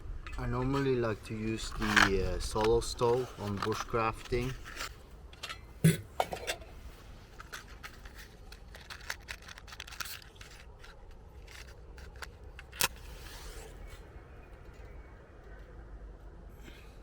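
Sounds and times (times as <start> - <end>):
metallic clicks and scrapes: 0.2 - 15.0.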